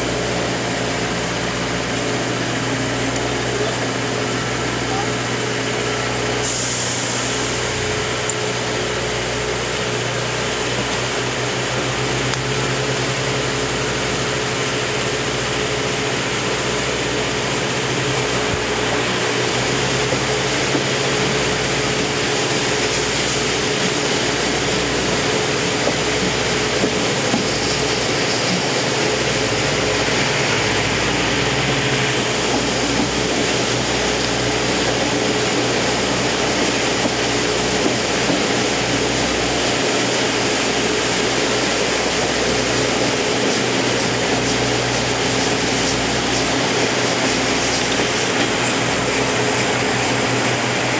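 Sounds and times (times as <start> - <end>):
train rolling on rails: 0.0 - 50.9.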